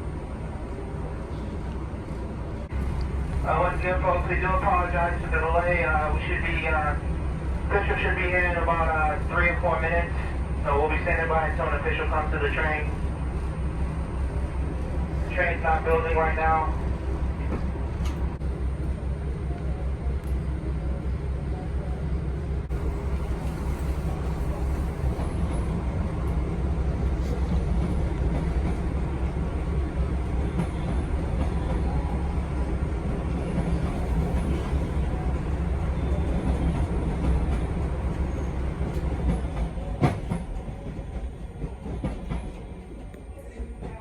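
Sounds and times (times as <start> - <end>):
subway car rumble and hum: 0.0 - 44.0.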